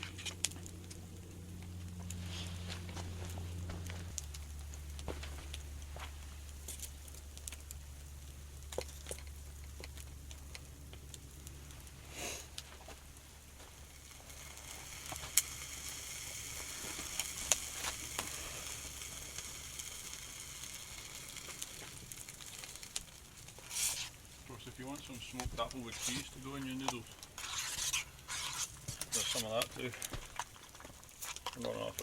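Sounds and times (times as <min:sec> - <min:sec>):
fire crackles and pops: 0:00.0 - 0:32.0
food sizzling over campfire: 0:00.0 - 0:32.0.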